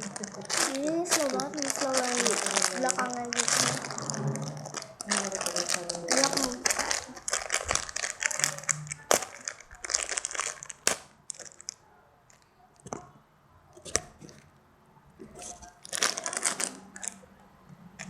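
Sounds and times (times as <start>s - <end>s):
plastic bag crinkling: 0.0s - 13.0s, 15.3s - 17.2s
sharp plastic crackles: 0.0s - 13.2s, 15.2s - 17.3s.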